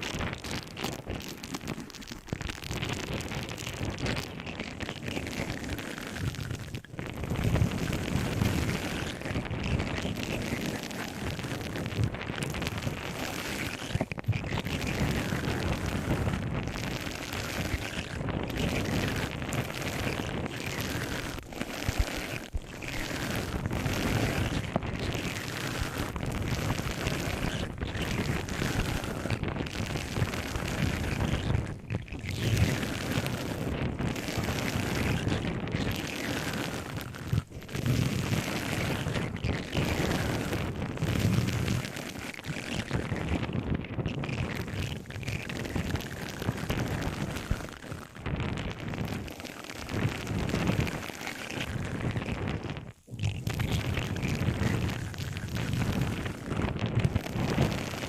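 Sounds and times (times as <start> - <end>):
scratching at microphone: 0.0 - 58.0.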